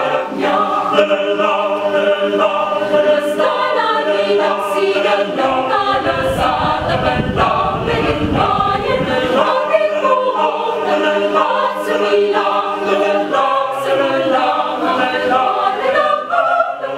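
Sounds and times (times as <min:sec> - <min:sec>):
mixed choir singing a cappella: 0:00.0 - 0:16.9.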